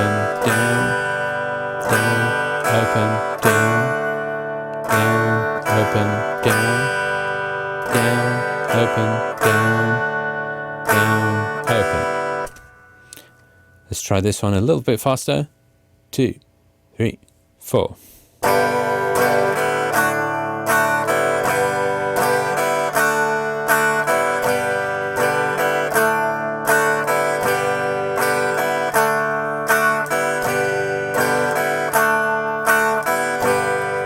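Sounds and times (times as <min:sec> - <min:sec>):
guitar strumming: 0:00.0 - 0:15.4, 0:18.4 - 0:34.0.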